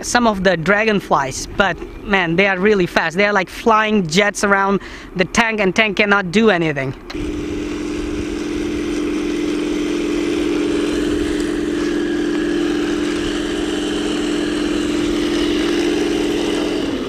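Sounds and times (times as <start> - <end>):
simulated engine drone from speaker: 0.0 - 17.0.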